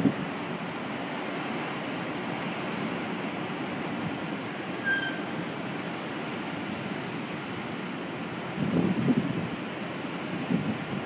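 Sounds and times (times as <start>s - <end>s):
heavy surf rushing: 0.0s - 11.0s
wind: 0.0s - 11.0s.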